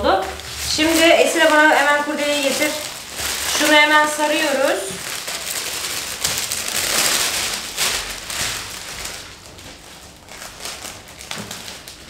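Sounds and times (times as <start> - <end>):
cellophane crinkling: 0.0 - 12.0.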